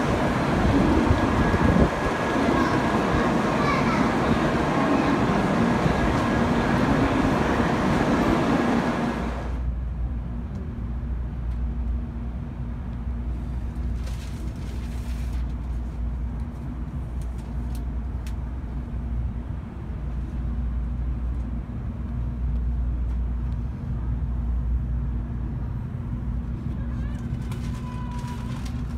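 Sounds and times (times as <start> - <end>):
low train cabin hum: 0.0 - 28.9
rushing noise beside train: 0.0 - 28.9.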